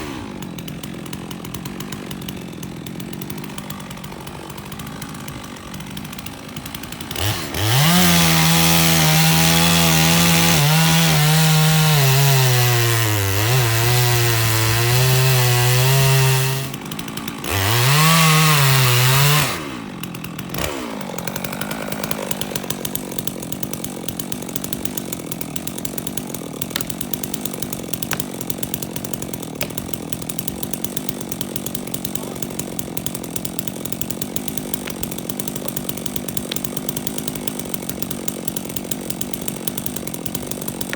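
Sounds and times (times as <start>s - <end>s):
chainsaw cutting tree trunk: 0.0s - 40.9s.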